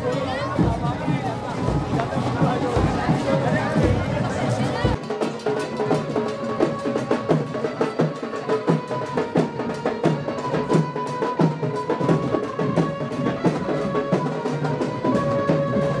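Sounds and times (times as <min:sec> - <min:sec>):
music with quick drum beat: 0:00.0 - 0:16.0.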